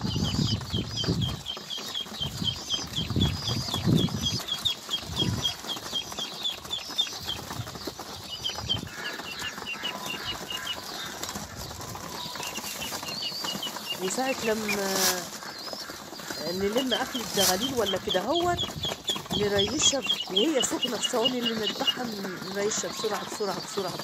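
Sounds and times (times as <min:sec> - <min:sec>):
pigeon wings fluttering: 0:00.0 - 0:24.0
short high peeping calls: 0:00.0 - 0:24.0.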